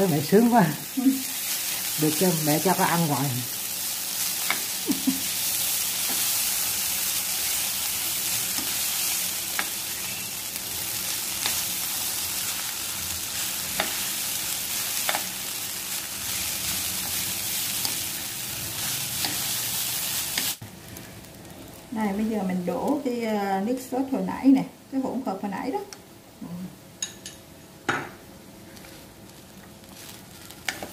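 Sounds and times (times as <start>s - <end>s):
noodles sizzling in a wok: 0.0s - 23.2s, 28.5s - 30.9s.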